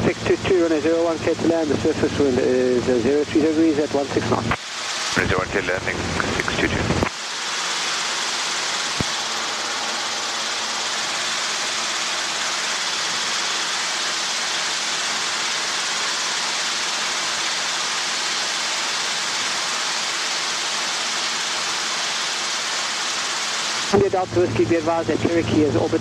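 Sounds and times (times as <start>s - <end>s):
engine and rotor hum: 0.0s - 26.0s
helicopter cockpit hiss: 0.0s - 26.0s.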